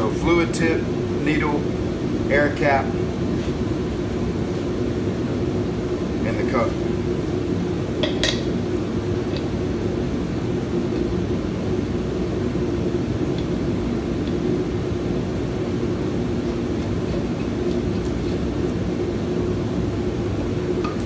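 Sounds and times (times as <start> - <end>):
machine droning: 0.0 - 21.0.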